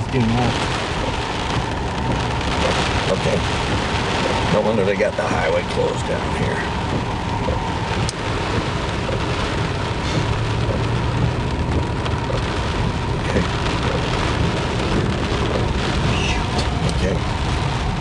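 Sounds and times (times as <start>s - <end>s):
rain on car windshield: 0.0s - 18.0s
road and engine rumble: 0.0s - 18.0s.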